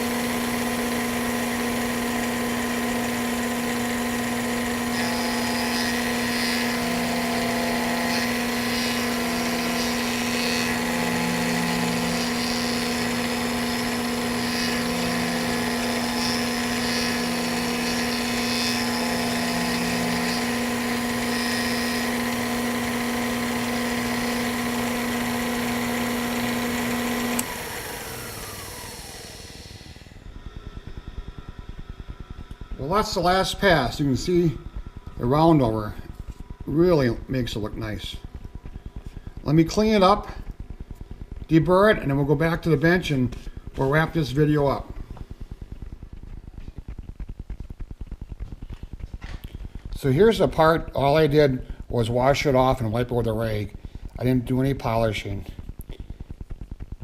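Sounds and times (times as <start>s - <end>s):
spindle whine: 0.0s - 57.0s.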